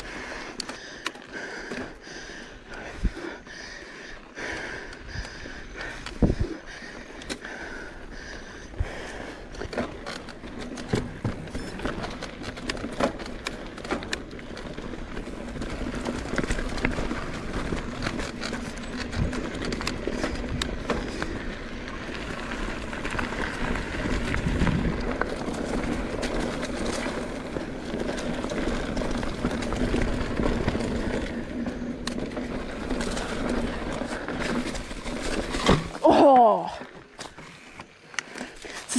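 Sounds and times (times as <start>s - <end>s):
bike clicking and rattling: 0.0s - 38.9s
bike tyres on dirt and gravel: 0.0s - 38.9s.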